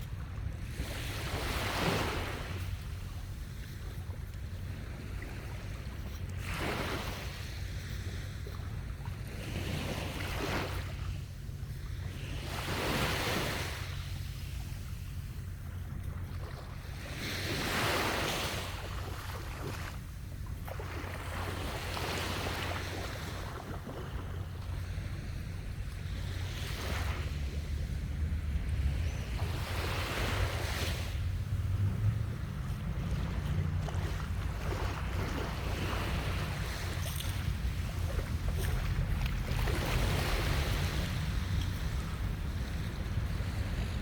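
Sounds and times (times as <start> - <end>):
sea waves breaking on sand: 0.0 - 44.0
wind rumble on microphone: 0.0 - 44.0.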